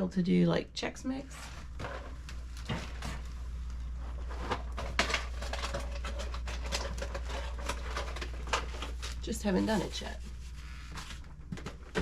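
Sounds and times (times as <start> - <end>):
food packages rustling and knocking: 1.4 - 12.0.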